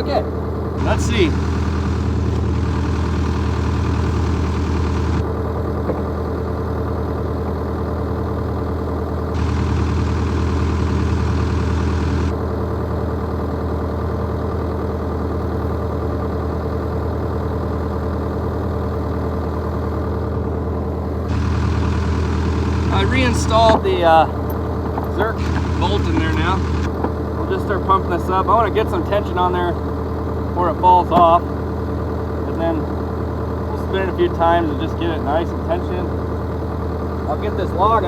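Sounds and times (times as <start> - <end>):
excavator diesel engine idling: 0.0 - 38.0.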